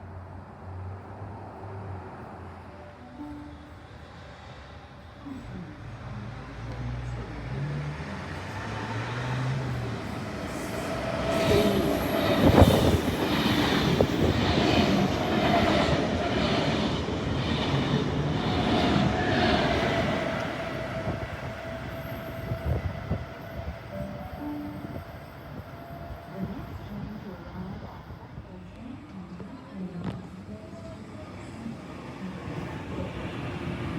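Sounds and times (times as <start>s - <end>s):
train passing: 0.0s - 33.9s.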